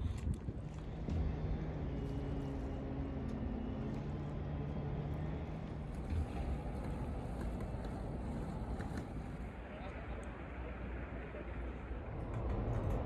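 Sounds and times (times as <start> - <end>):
engine droning: 0.0 - 13.0
low outdoor rumble: 0.0 - 13.0.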